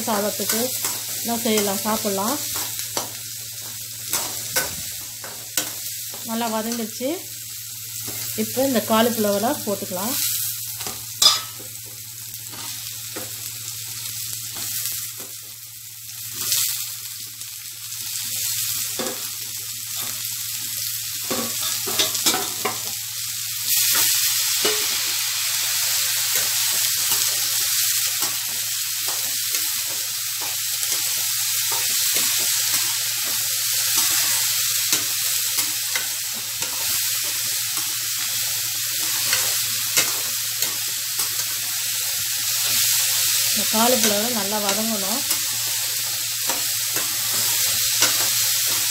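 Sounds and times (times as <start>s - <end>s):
vegetables frying in oil: 0.0s - 48.9s.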